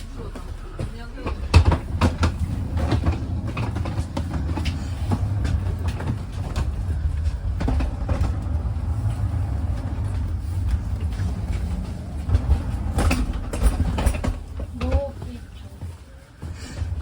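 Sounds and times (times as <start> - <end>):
train carriage rumble: 0.0 - 17.0.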